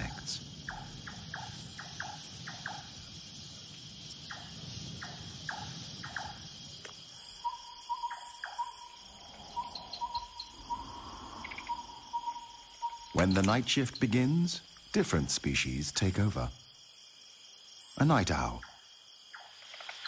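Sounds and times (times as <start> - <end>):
crickets and insects trilling: 0.0 - 20.0.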